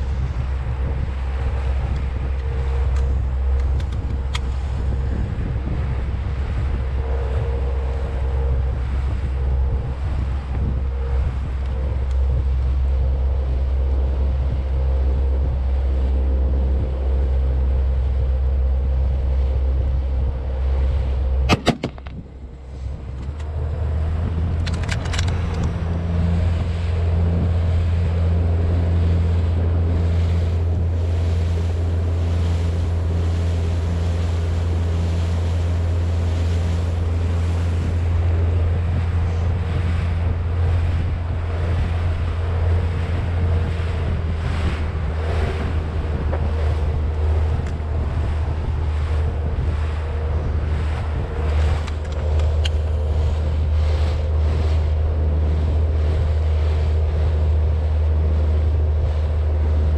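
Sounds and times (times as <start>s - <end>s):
motorboat engine running: 0.0s - 59.9s
water rushing past hull: 0.0s - 59.9s
wind buffeting microphone: 0.0s - 59.9s.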